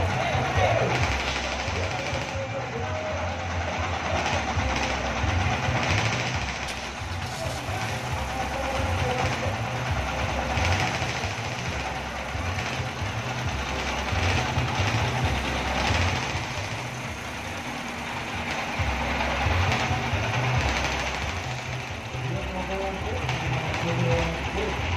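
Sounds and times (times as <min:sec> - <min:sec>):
diesel engine knocking exhaust: 0:00.0 - 0:24.9.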